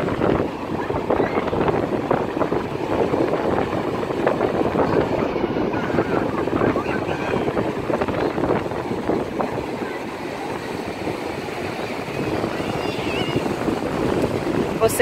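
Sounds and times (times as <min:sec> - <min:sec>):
heavy surf breaking: 0:00.0 - 0:15.0
wind buffeting microphone: 0:00.0 - 0:15.0.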